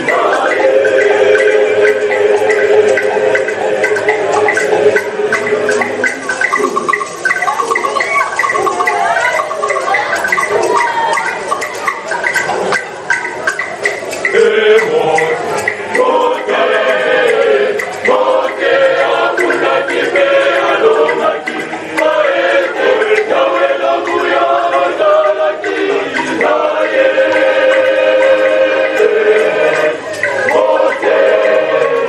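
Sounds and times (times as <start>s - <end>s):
choir singing: 0.0s - 32.0s.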